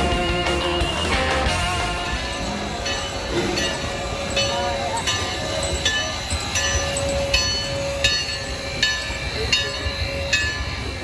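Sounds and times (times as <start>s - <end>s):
locomotive bell clanging: 0.0s - 11.0s
steam train rumble: 0.0s - 11.0s.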